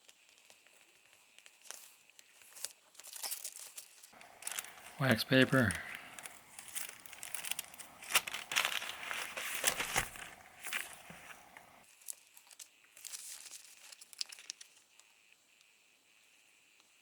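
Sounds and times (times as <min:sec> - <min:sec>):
wax paper crinkling: 0:00.0 - 0:15.2.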